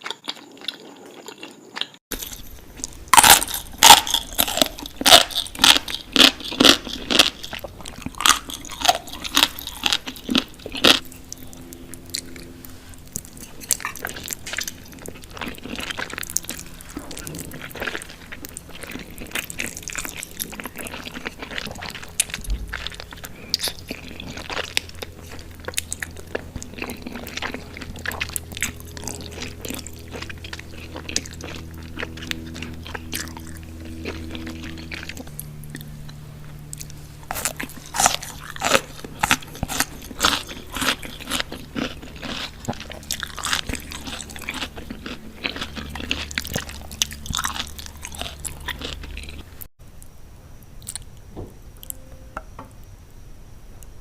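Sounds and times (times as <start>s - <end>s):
crunchy bites and chewing: 0.0s - 50.1s, 50.8s - 51.2s.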